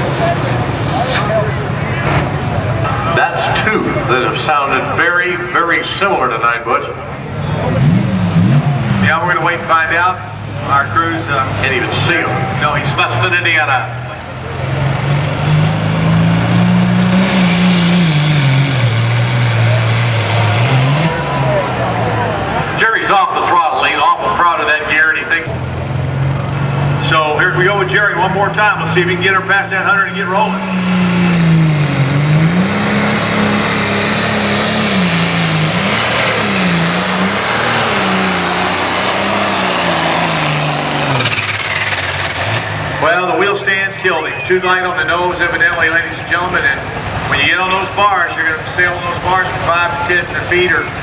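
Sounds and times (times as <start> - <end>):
tractor diesel engine revving: 0.0 - 51.0.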